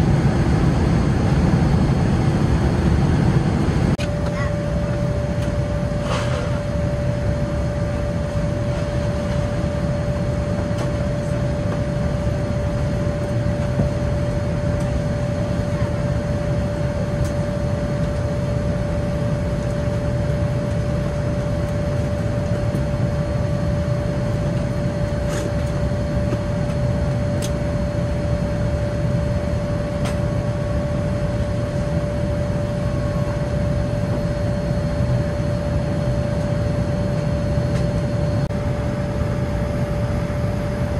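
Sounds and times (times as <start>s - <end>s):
airplane cabin noise: 0.0s - 40.9s
constant hum tone: 0.0s - 40.9s.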